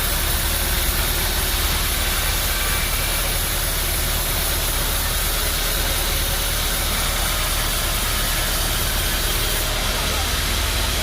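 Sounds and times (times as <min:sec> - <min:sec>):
sawmill machinery humming: 0:00.0 - 0:11.0.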